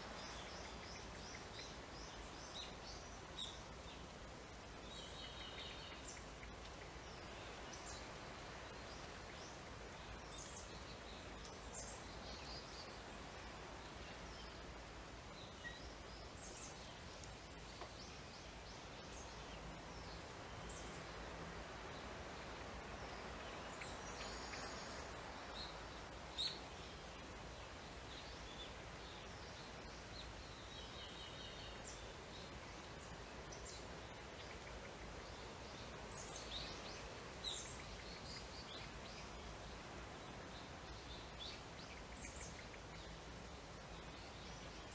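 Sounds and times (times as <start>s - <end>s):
faint birds chirping: 0.0s - 44.9s
steady background hiss: 0.0s - 44.9s.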